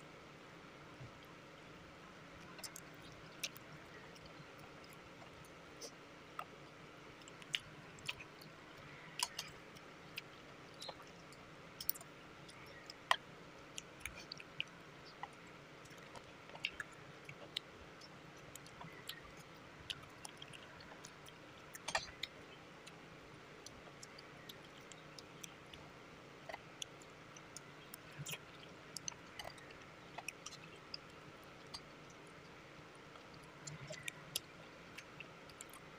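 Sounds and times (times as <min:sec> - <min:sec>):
wet chewing mouth sounds: 0:02.4 - 0:23.0, 0:23.6 - 0:35.9.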